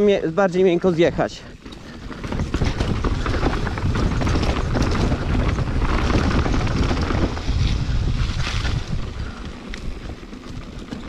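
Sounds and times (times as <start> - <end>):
bike chain and frame clattering: 0.0 - 11.0
bike tyres rumbling over dirt: 0.0 - 11.0.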